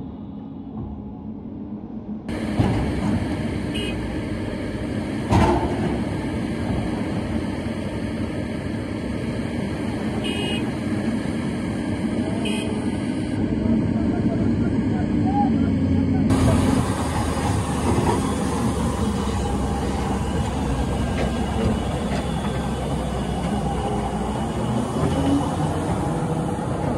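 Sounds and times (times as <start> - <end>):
truck diesel engine under load: 2.3 - 26.9.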